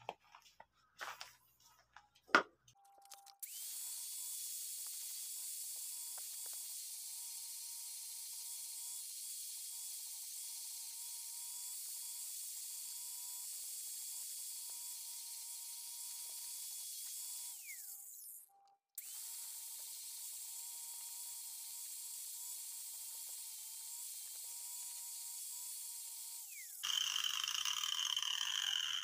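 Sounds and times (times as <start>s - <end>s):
angle grinder whining: 3.4s - 29.0s.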